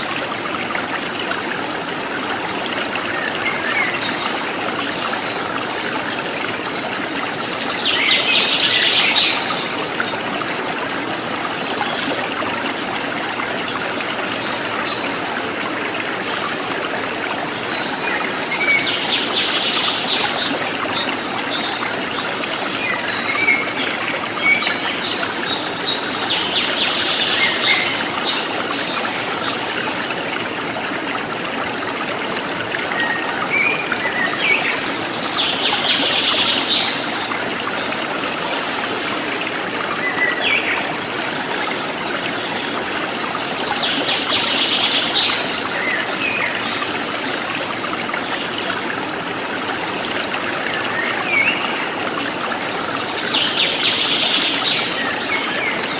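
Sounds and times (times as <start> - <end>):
stream water trickling: 0.0 - 55.9.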